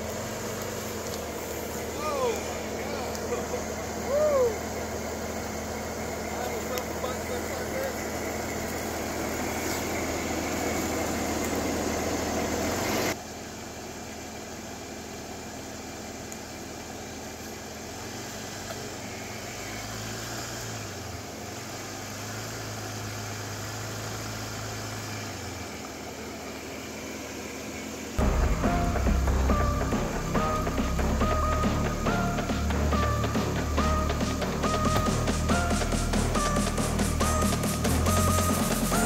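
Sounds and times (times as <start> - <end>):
engine running at low revs: 0.0 - 39.0.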